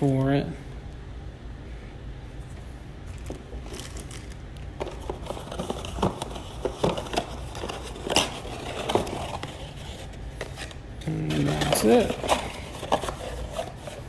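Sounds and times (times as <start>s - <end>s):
hands handling packaging: 2.4s - 14.0s.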